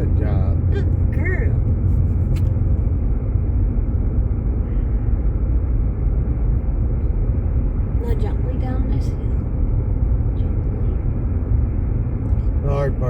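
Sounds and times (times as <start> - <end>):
tyre and engine rumble in car cabin: 0.0 - 13.0.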